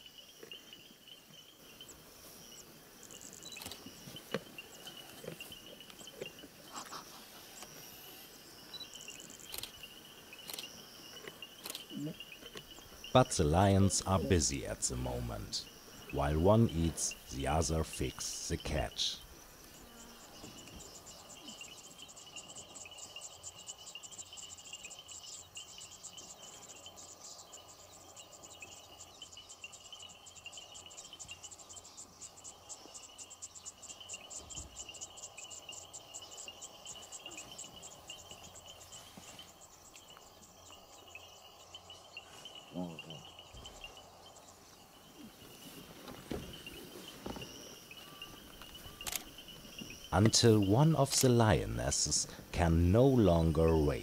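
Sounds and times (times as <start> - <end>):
high pulsing insect trill: 0.0 - 54.0
low cricket chirring: 0.0 - 54.0.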